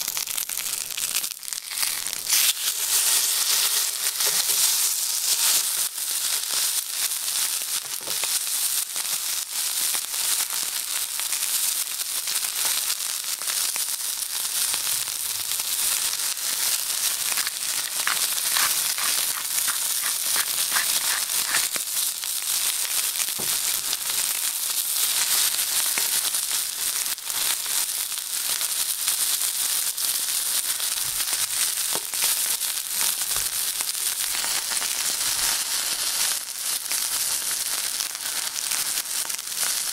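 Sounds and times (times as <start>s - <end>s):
steak sizzling in a pan: 0.1s - 39.9s.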